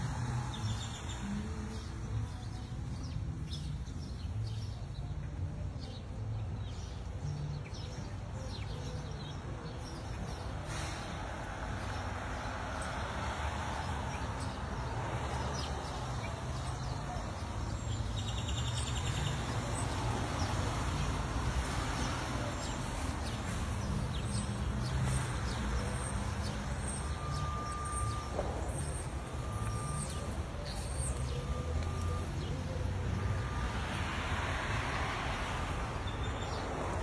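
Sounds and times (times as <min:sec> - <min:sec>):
street traffic with cars passing: 0:00.0 - 0:37.0.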